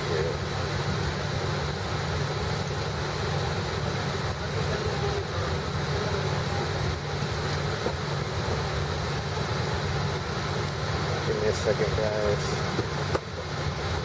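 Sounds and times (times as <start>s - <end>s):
airliner cabin hum: 0.0s - 14.0s.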